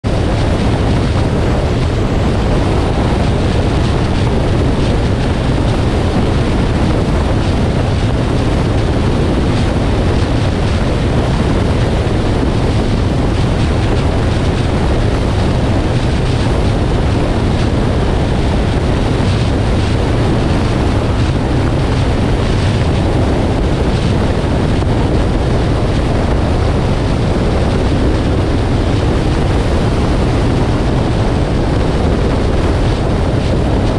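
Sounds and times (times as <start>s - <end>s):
car road and wind noise: 0.0s - 33.9s.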